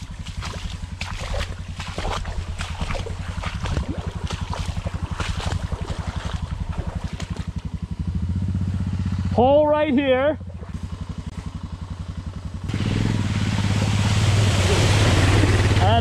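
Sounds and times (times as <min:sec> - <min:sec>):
water splashing and sloshing: 0:00.0 - 0:08.0, 0:10.4 - 0:16.0
motorcycle engine chugging: 0:00.0 - 0:16.0.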